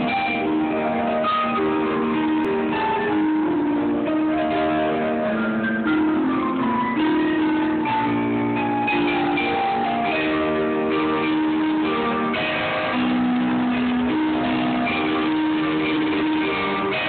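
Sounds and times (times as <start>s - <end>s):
electronic keyboard melody: 0.0s - 17.0s.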